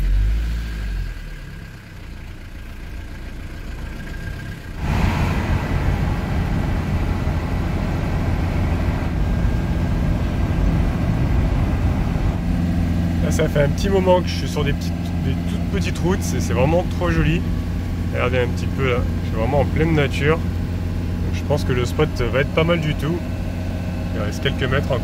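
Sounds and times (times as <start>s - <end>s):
road noise: 0.0s - 25.0s
vehicle engine from inside cab: 0.0s - 25.0s.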